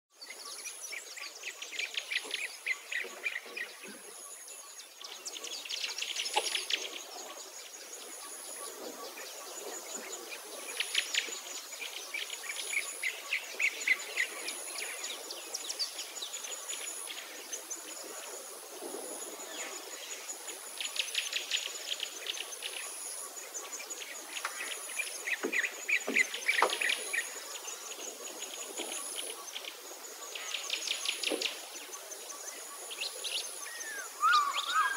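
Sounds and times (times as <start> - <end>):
birds trilling and chirping: 0.2 - 34.9.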